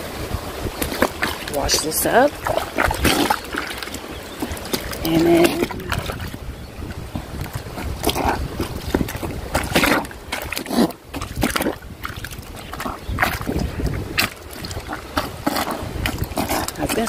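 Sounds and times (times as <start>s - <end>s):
water sloshing in tub: 0.0s - 17.0s.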